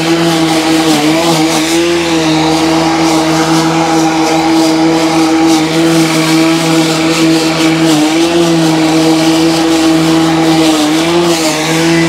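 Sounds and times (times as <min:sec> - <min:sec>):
lawn mower humming: 0:00.0 - 0:12.0.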